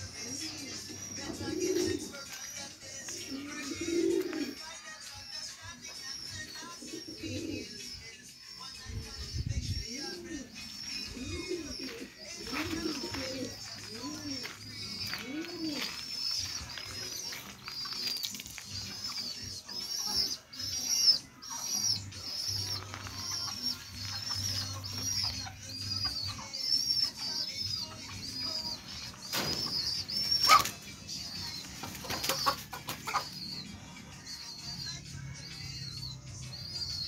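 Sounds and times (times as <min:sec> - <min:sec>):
soft background music: 0:00.0 - 0:37.0.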